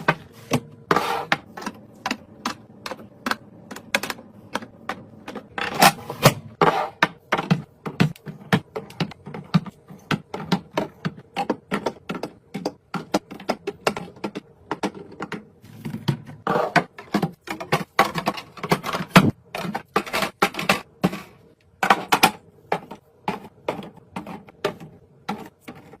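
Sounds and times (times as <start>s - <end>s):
food containers clicking and knocking: 0.0s - 26.0s.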